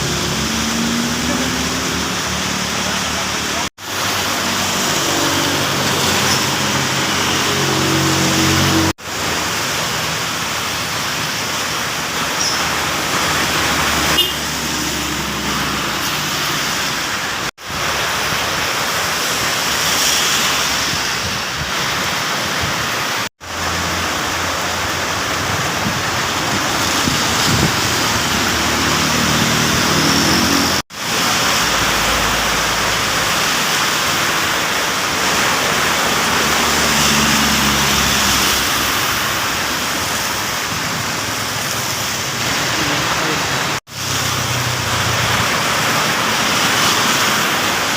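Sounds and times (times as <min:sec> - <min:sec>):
heavy rain hissing: 0:00.0 - 0:47.9
vehicles passing on wet road: 0:00.0 - 0:47.9.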